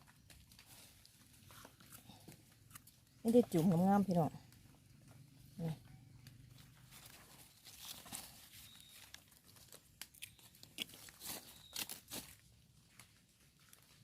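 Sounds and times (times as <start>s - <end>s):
leaf litter and twigs crackling: 0.0s - 14.0s.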